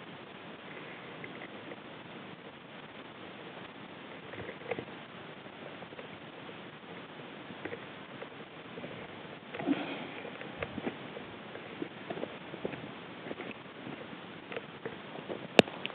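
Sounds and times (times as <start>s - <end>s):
steady hiss: 0.0s - 15.9s.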